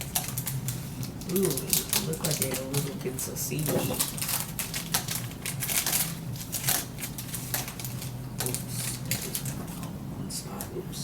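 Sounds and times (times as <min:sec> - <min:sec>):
food packets crackling: 0:00.0 - 0:10.0
steady low hum: 0:00.0 - 0:11.0.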